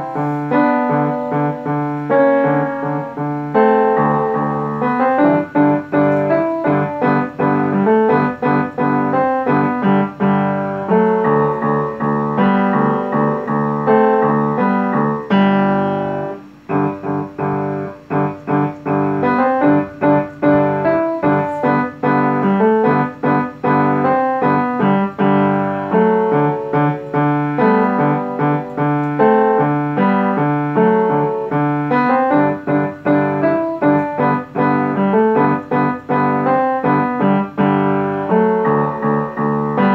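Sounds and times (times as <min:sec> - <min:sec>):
upright piano playing: 0:00.0 - 0:39.9.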